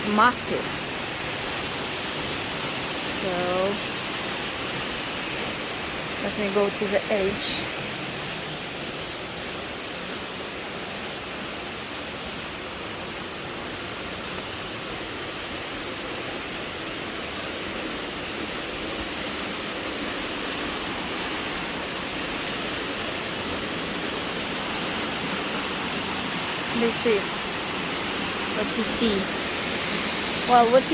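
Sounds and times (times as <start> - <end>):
waterfall roaring: 0.0 - 30.9.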